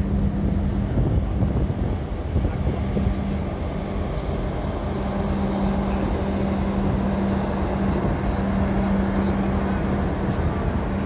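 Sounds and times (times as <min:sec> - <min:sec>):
boat engine droning: 0:00.0 - 0:11.0
rushing water and wind: 0:00.0 - 0:11.0.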